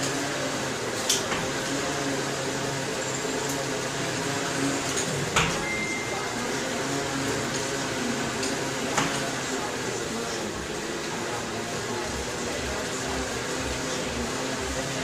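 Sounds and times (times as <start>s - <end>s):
tyres whirring on rollers: 0.0s - 15.0s.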